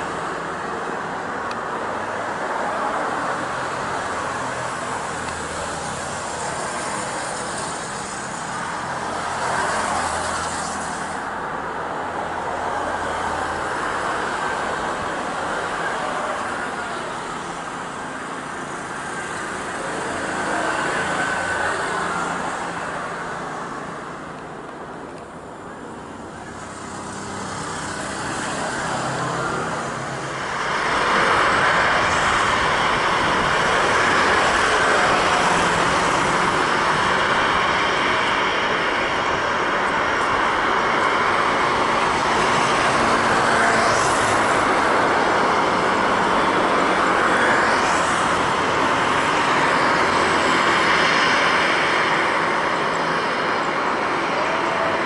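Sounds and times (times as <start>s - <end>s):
distant engine noise: 0.0s - 55.0s
jet engine rush: 0.0s - 55.0s.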